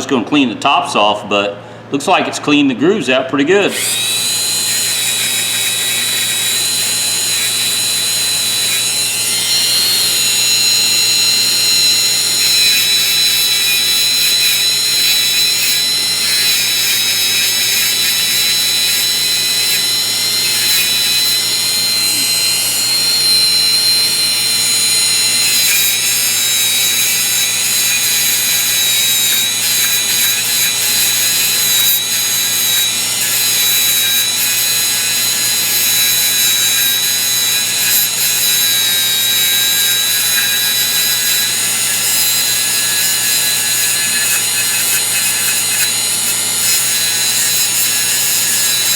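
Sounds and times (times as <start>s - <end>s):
high-speed power tool whine: 3.6s - 48.9s
abrasive wheel scrubbing metal: 3.7s - 48.9s.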